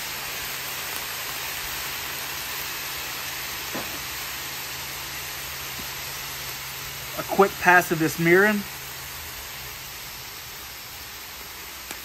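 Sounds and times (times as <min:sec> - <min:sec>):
sauce sizzling on a griddle: 0:00.0 - 0:12.0.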